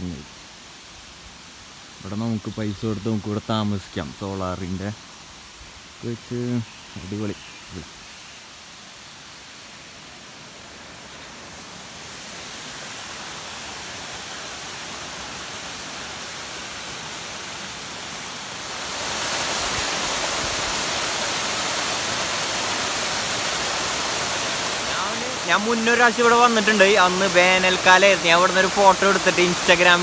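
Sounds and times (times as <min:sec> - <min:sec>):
waterfall rushing into pool: 0:00.0 - 0:30.0.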